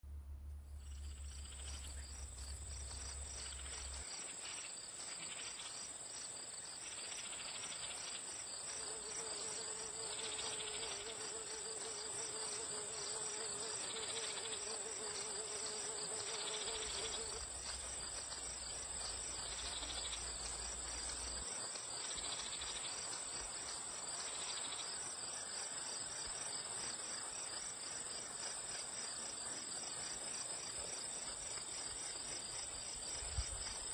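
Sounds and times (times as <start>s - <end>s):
insects chirring: 0.1s - 33.9s
low insect buzz: 0.1s - 33.9s.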